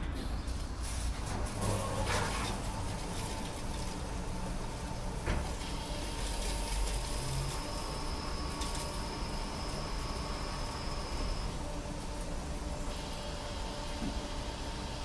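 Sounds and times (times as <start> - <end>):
car wash machine humming: 0.0 - 15.0
thin high whine: 0.0 - 15.0.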